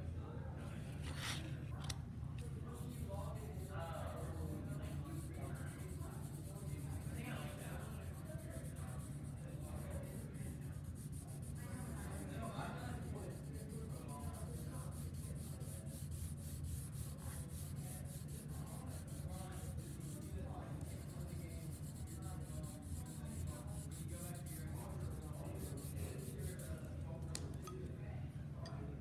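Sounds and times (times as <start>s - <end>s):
steady low hum: 0.0s - 29.0s
pencil rubbing on paper: 2.7s - 26.8s.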